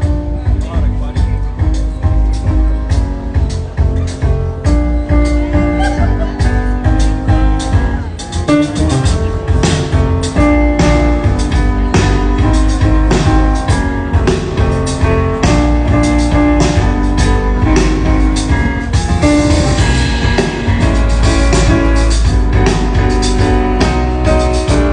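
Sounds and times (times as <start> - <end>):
bass line: 0.0 - 24.9
drum kit: 0.0 - 24.9
jazz piano: 0.0 - 24.9.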